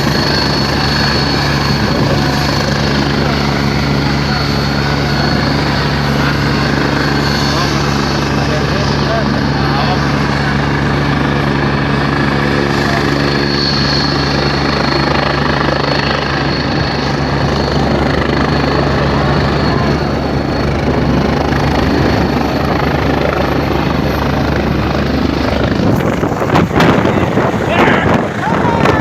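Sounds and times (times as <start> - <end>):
helicopter rotor and engine: 0.0 - 29.0
high thin turbine whine: 0.0 - 29.0.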